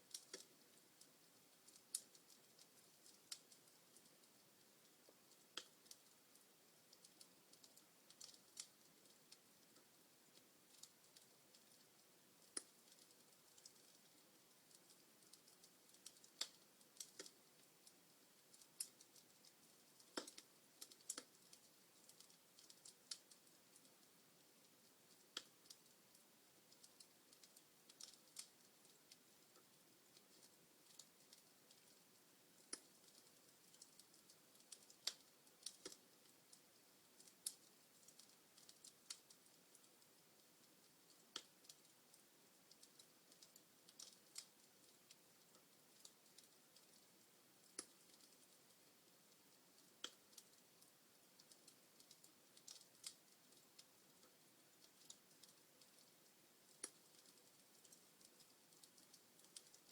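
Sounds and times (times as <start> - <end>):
faint steady hiss: 0.0 - 59.9
wood fire crackling: 0.0 - 59.9.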